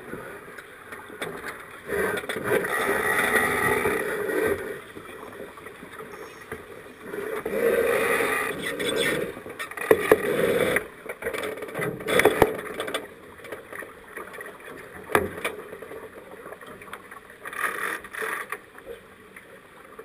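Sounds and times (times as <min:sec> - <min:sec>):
water rushing along hull: 0:00.0 - 0:20.0.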